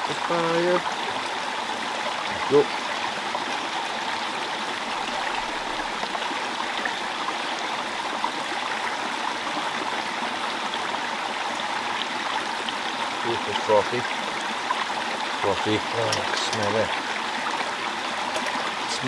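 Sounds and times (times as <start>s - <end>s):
stream running: 0.0s - 19.0s.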